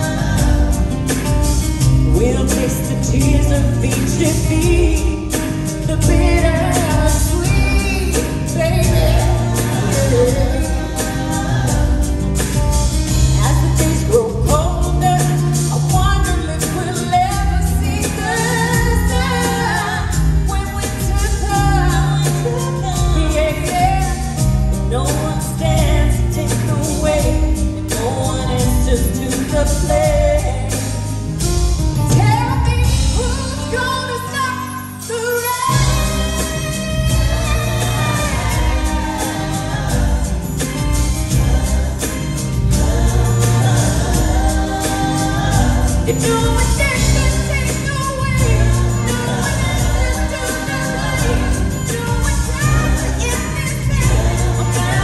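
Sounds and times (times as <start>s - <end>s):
woman singing: 0.0s - 31.2s, 32.0s - 55.0s
live pop-rock band: 0.0s - 55.0s.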